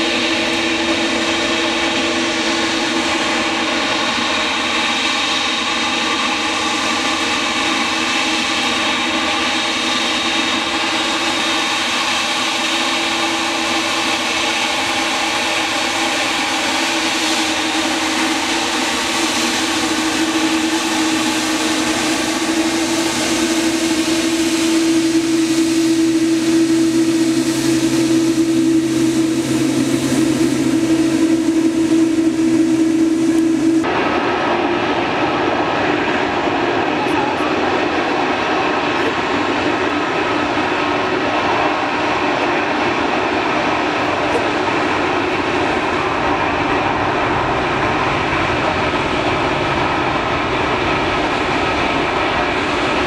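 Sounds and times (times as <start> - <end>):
jet engines whining at taxi: 0.0 - 53.0.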